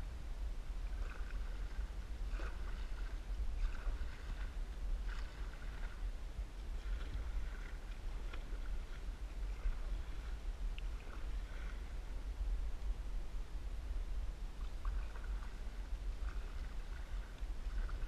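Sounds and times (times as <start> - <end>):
steady low rumble: 0.0 - 18.0
canoe paddle splashing water: 0.6 - 12.8, 14.6 - 18.0.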